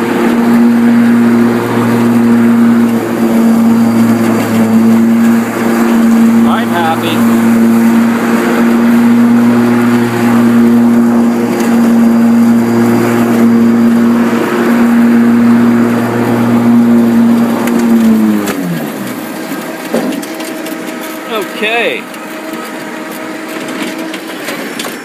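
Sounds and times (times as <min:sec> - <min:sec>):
electric mower motor humming: 0:00.0 - 0:25.0
mower blades spinning: 0:00.0 - 0:25.0.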